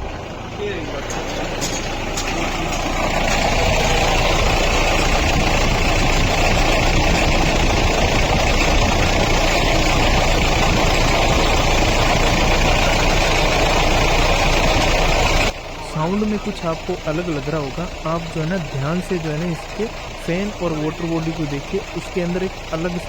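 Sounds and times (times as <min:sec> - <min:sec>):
car engine idling: 0:00.0 - 0:23.0
water pump and fan noise: 0:00.0 - 0:23.0.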